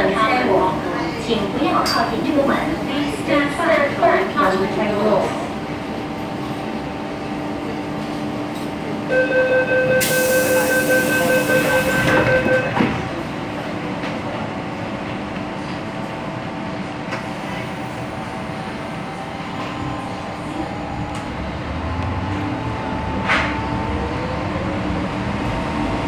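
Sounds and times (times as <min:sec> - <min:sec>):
train hum: 0:00.0 - 0:26.0.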